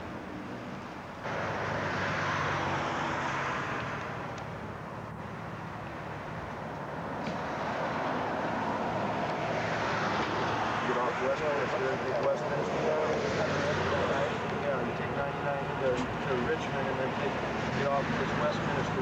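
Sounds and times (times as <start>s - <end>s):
passing vehicles rushing: 0.0s - 19.0s.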